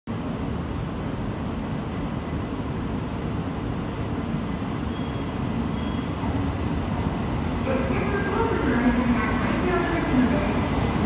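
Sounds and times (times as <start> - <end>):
train rumbling into station: 0.1 - 11.0.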